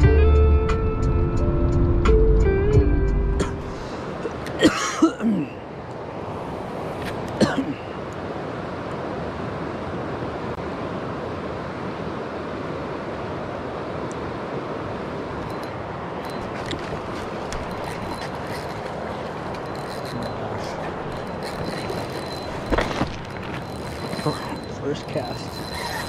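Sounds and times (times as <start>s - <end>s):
river flowing over rocks: 3.7s - 26.0s.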